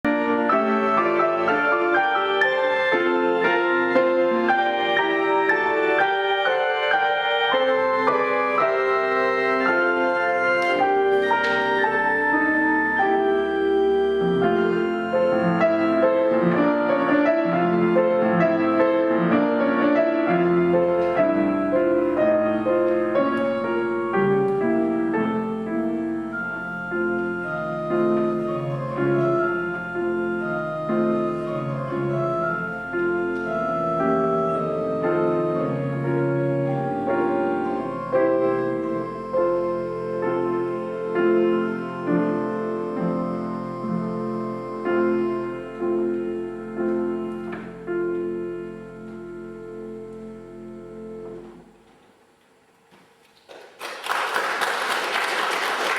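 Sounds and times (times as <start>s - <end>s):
piano melody: 0.0s - 52.8s
organ sustained notes: 0.1s - 52.8s.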